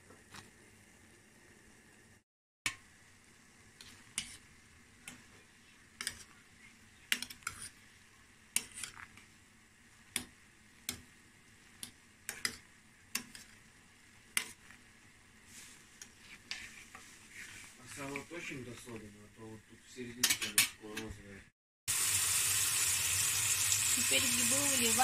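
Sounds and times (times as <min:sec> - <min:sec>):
boiling water hiss: 0:02.8 - 0:20.0, 0:21.9 - 0:25.0.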